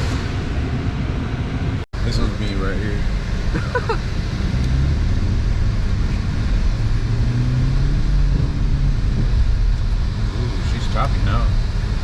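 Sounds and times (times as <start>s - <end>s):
car engine revving: 2.0s - 12.0s.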